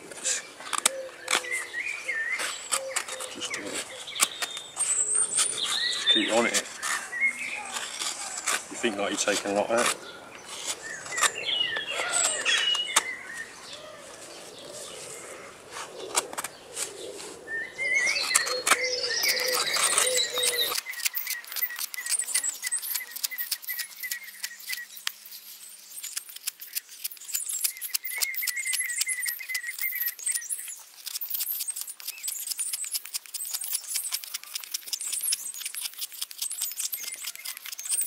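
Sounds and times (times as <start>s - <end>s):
birds chirping: 0.0s - 38.0s
knife scraping wood: 0.1s - 13.1s, 15.7s - 38.0s.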